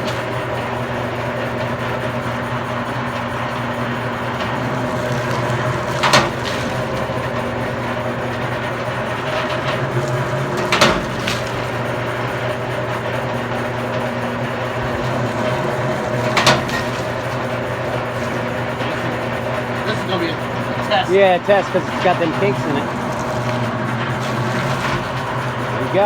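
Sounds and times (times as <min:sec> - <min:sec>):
wire-stripping machine motor hum: 0:00.0 - 0:26.0.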